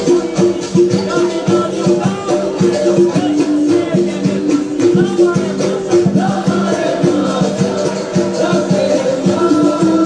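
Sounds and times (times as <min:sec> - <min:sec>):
steady percussion beat: 0:00.0 - 0:10.0.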